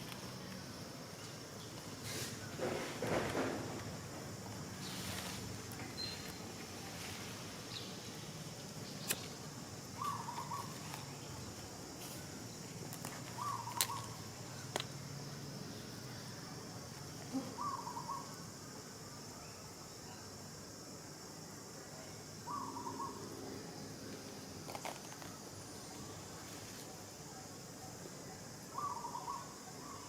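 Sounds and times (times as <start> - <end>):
steady high hiss: 0.0 - 30.0.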